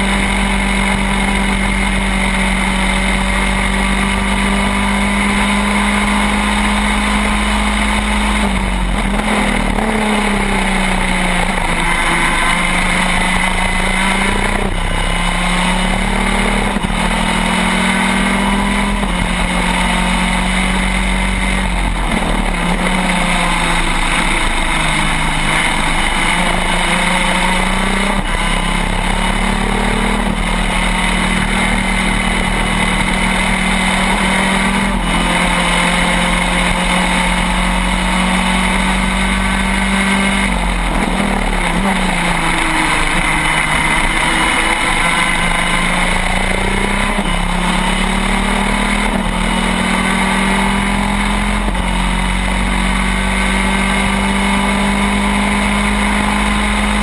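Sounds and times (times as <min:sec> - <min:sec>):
kart engine shifting gears: 0:00.0 - 0:57.0
wind and road noise: 0:00.0 - 0:57.0.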